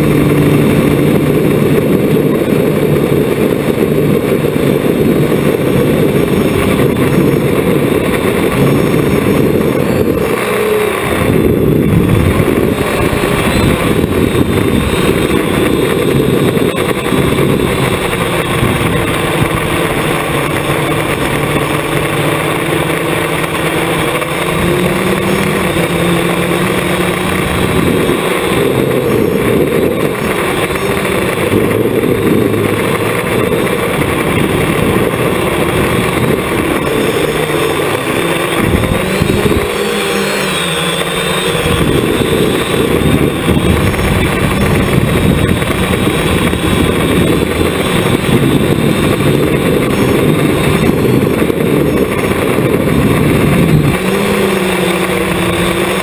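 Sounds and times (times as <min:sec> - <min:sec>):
drone motors and propellers buzzing: 0:00.0 - 0:56.0.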